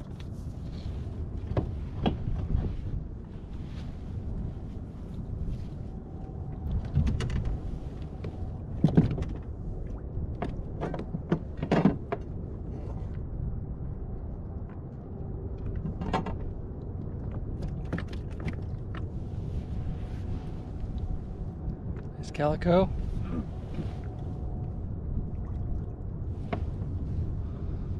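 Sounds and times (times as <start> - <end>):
wind rumbling on microphone: 0.0 - 27.9.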